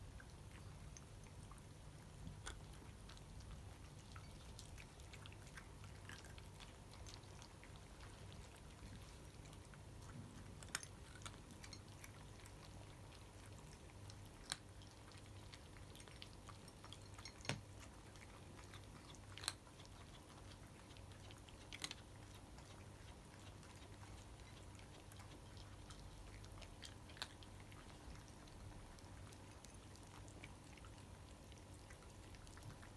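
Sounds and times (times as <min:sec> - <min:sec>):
cats crunching dry kibble: 0:00.3 - 0:32.9.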